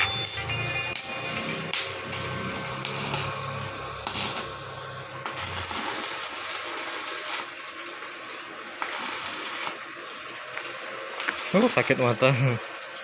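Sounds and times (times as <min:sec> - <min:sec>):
welding arc crackling and hissing: 0:00.0 - 0:12.6.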